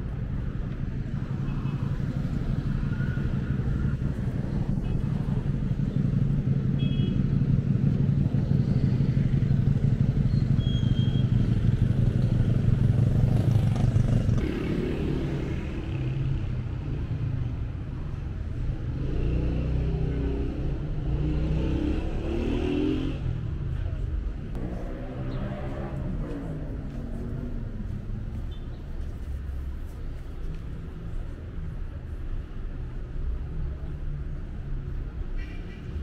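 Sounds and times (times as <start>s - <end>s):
street traffic noise: 0.0s - 36.0s.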